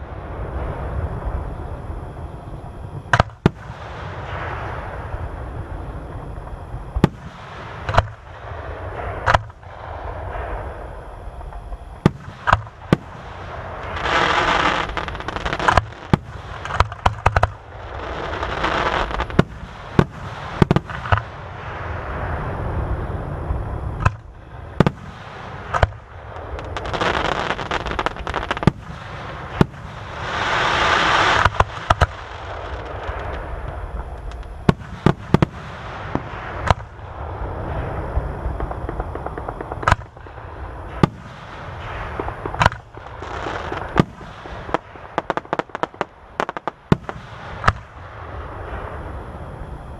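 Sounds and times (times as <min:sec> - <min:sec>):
fireworks bangs: 0:00.0 - 0:49.4
fireworks crackle and fizz: 0:00.0 - 0:49.9.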